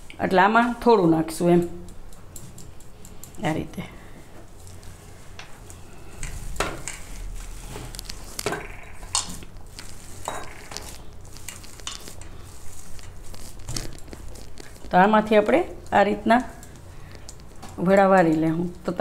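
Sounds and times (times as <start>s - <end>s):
hand squishing soft mash: 3.5s - 19.0s.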